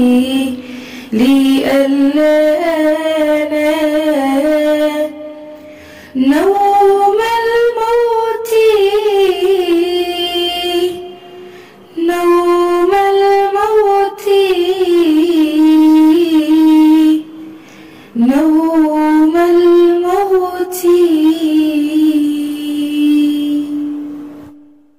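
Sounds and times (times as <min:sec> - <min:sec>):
woman singing: 0:00.0 - 0:05.4, 0:06.1 - 0:11.2, 0:11.9 - 0:17.3, 0:18.2 - 0:24.0.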